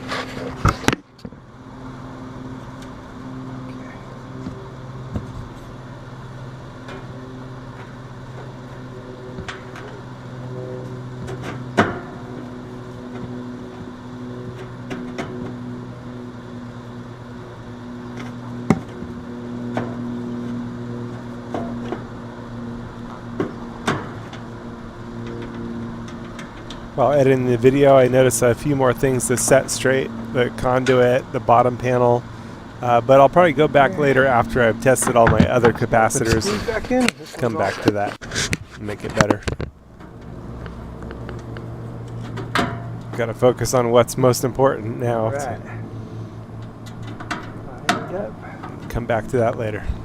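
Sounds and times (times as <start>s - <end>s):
air conditioner hum: 0.0s - 50.0s.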